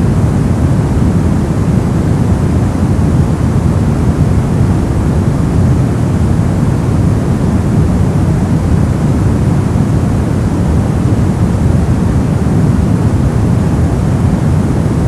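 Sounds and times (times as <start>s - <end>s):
brown noise deep hiss: 0.0s - 15.0s.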